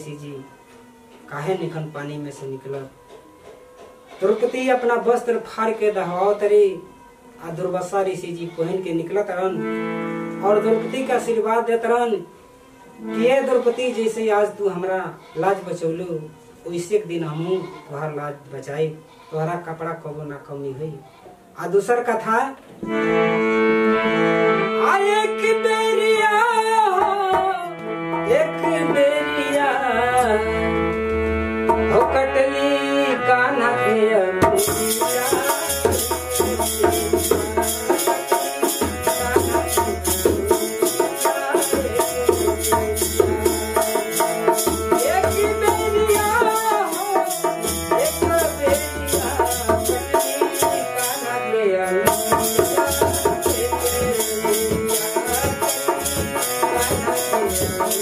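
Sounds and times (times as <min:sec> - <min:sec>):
harmonium melody: 0:00.0 - 0:20.1, 0:22.7 - 0:58.0.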